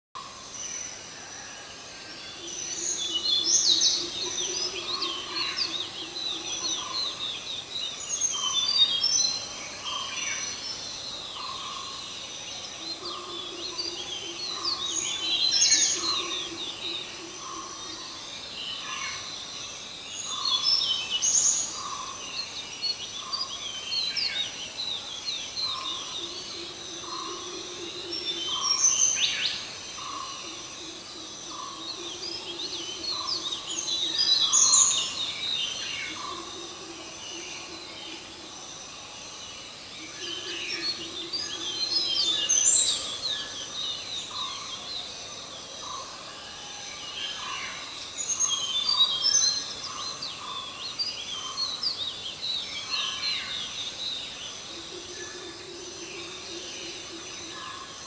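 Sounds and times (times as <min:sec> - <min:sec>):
small birds chirping and trilling: 0:00.2 - 0:58.0.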